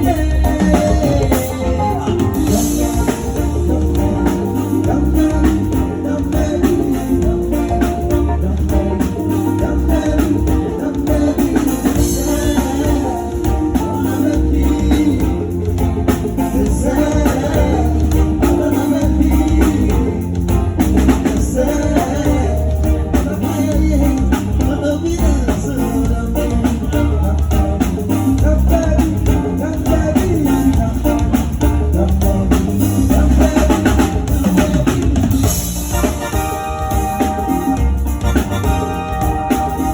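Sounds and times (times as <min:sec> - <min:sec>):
bass drum and snare rimshots: 0:00.0 - 0:39.9
heavy low bass line: 0:00.0 - 0:39.9
live band playing: 0:00.0 - 0:39.9.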